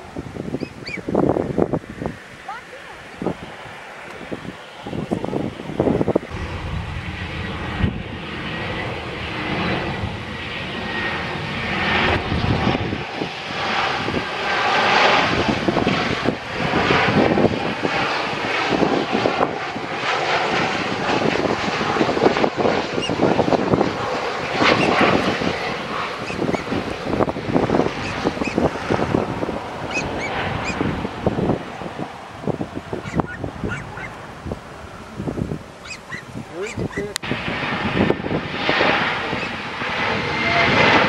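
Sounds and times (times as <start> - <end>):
jet airliner roar: 0.0 - 41.0.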